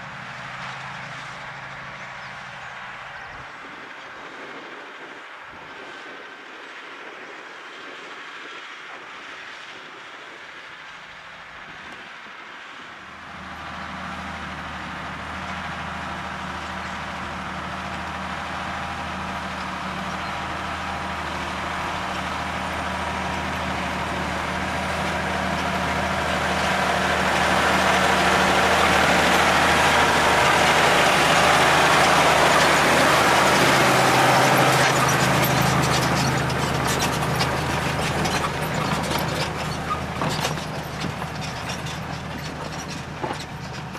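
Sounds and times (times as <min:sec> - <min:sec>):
tractor engine drone: 0:00.0 - 0:43.9.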